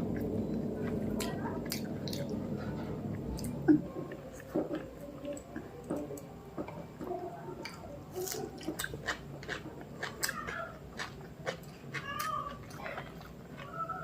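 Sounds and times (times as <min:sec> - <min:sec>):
chewing with wet mouth clicks: 0:00.1 - 0:02.4, 0:03.1 - 0:06.8, 0:07.6 - 0:13.8.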